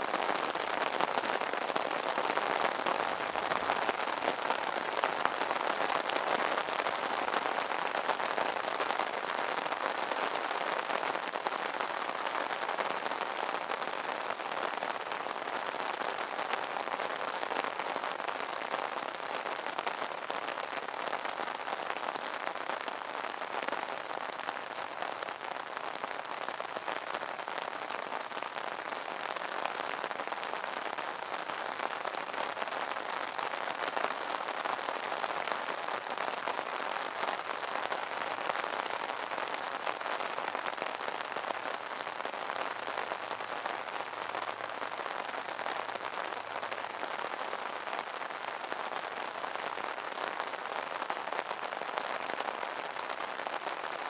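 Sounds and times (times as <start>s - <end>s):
rain drumming on umbrella: 0.0s - 54.0s.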